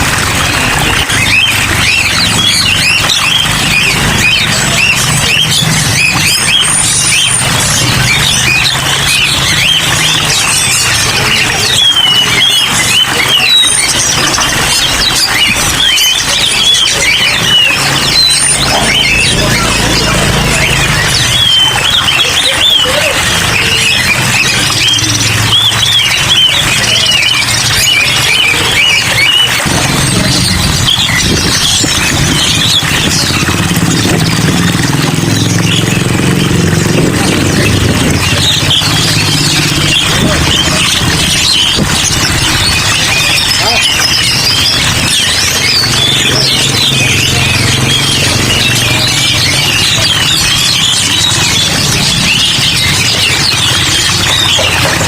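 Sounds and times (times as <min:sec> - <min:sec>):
low engine running: 0:00.0 - 0:55.0
songbirds chirping and whistling: 0:00.0 - 0:55.0.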